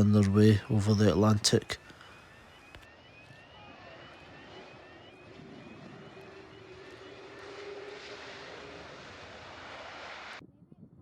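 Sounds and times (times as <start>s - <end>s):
jet engine turbine whine: 0.0s - 10.4s.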